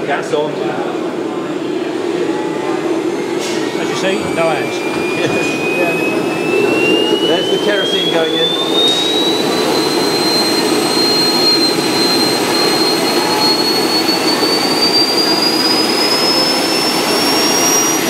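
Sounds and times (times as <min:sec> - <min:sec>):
gas turbine spooling up: 0:00.0 - 0:18.0
high whine rising in pitch: 0:00.0 - 0:18.0.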